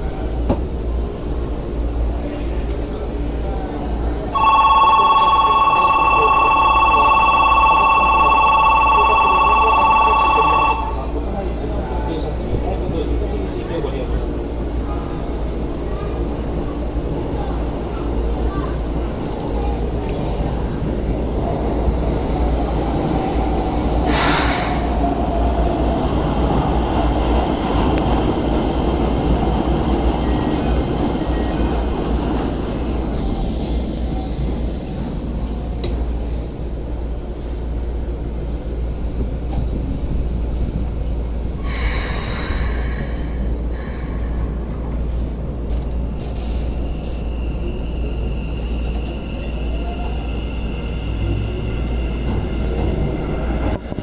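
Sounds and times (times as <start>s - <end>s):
train wheels rumbling on rail: 10.5s - 54.0s.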